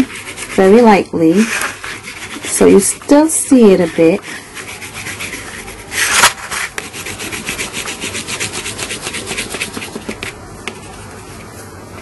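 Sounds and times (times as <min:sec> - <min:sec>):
oil pastel scratching sandpaper: 0:00.0 - 0:11.1.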